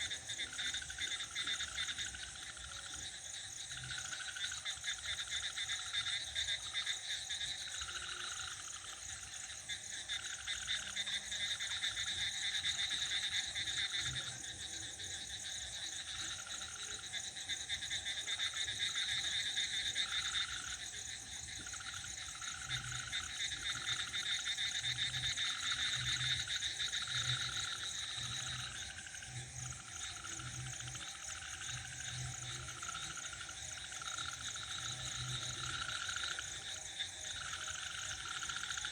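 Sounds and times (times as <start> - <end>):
cricket trill: 0.0 - 38.9
frogs calling: 0.0 - 38.9.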